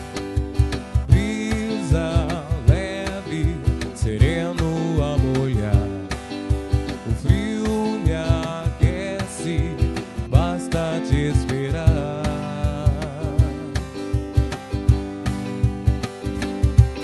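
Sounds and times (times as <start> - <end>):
acoustic guitar: 0.0 - 17.0
cajon beat: 0.0 - 17.0
electric guitar: 0.0 - 17.0
man singing: 1.0 - 14.8.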